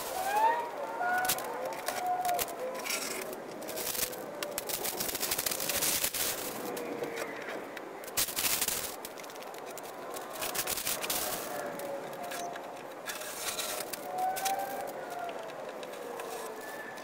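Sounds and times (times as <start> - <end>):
rapid crackles scrapes and clicks: 0.0 - 17.0.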